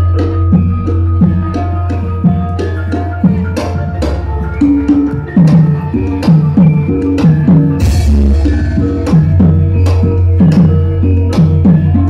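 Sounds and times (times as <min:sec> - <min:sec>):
gamelan ensemble playing: 0:00.0 - 0:12.0.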